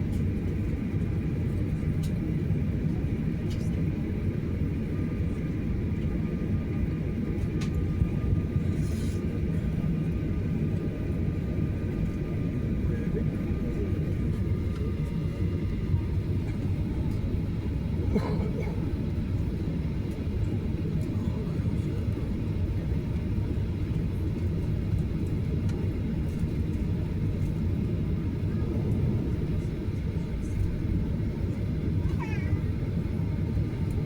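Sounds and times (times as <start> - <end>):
low airliner cabin rumble: 0.0 - 34.0.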